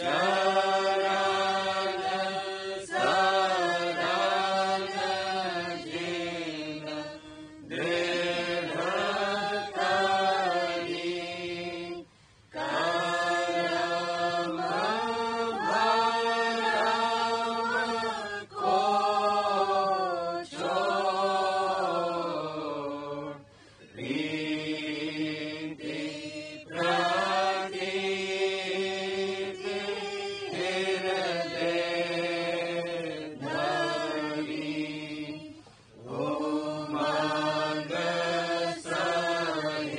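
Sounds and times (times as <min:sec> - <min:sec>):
person chanting a hymn: 0:00.0 - 0:39.9.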